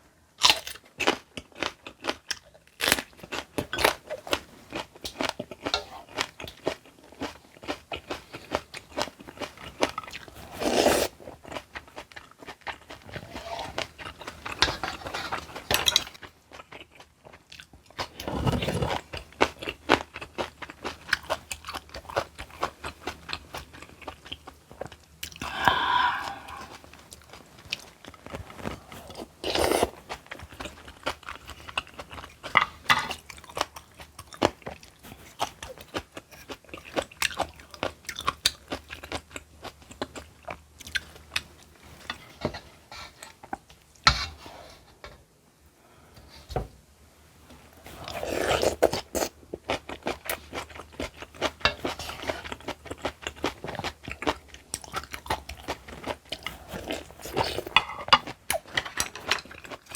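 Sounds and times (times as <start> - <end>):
crunchy bites and chewing: 0.4 - 41.2, 47.9 - 58.7.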